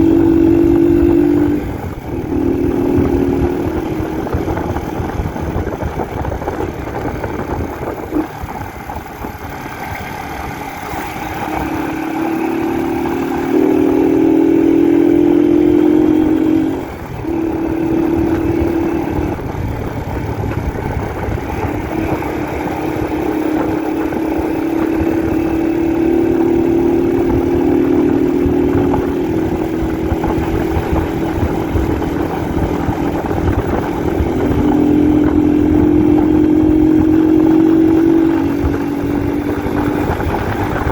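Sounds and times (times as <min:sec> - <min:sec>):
motorcycle engine running: 0:00.0 - 0:40.9
steady rush of noise: 0:00.0 - 0:40.9.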